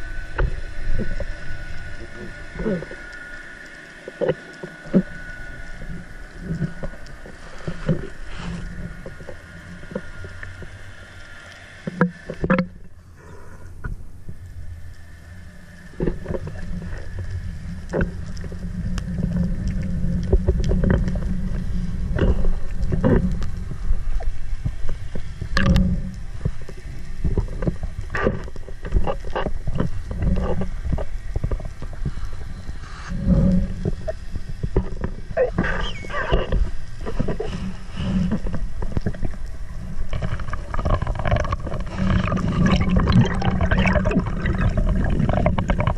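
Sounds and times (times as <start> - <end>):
underwater rumble: 0.0 - 45.9
water gurgling: 0.0 - 45.9.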